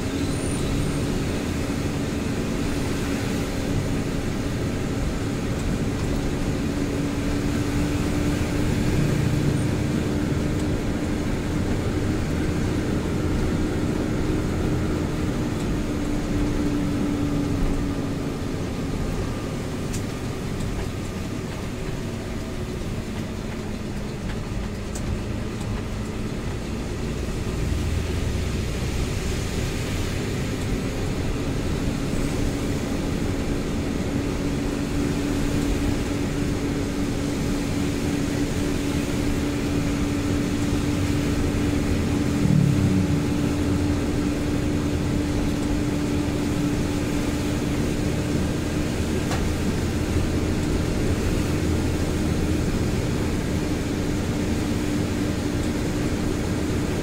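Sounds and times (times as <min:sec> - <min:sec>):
truck engine drone: 0:00.0 - 0:57.0
tyre and rain noise: 0:01.1 - 0:57.0.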